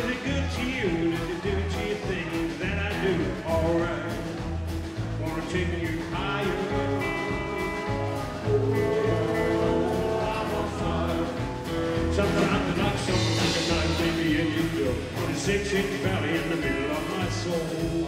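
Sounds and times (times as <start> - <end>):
drums with steady beat: 0.0 - 18.0.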